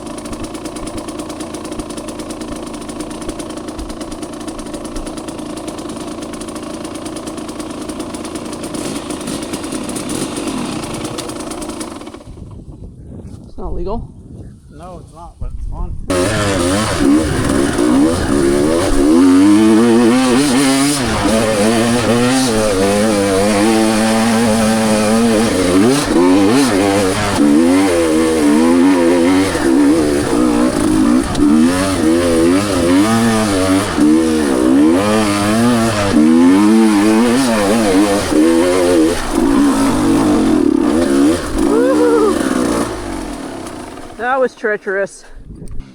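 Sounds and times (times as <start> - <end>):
dirt bike engine revving: 0.0 - 12.6, 16.1 - 45.9.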